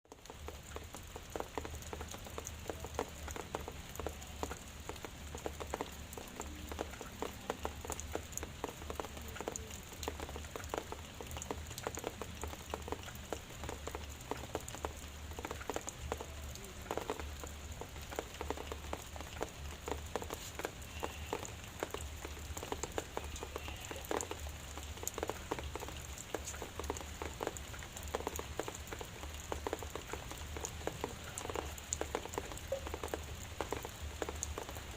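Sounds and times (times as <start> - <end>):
raindrops ticking on a surface: 0.0 - 34.9.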